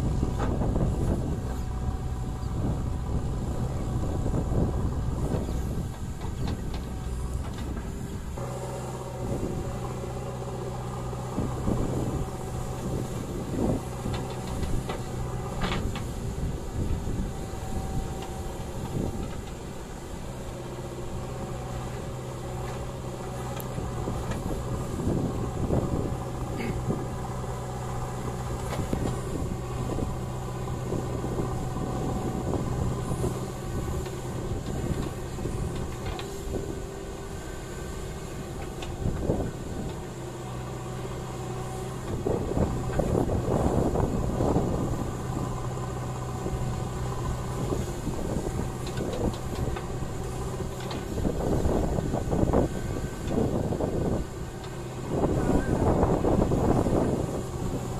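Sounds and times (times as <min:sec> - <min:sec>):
backhoe diesel engine running: 0:00.0 - 0:57.9.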